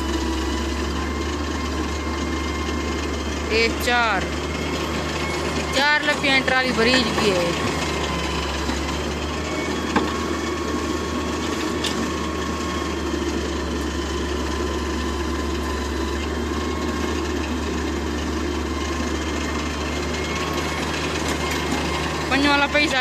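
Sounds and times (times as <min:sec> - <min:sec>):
diesel engines running: 0:00.0 - 0:23.0.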